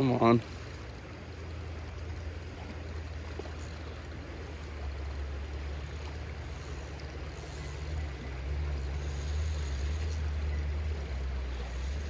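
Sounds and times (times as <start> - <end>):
creek running over riffle: 0.0 - 12.0.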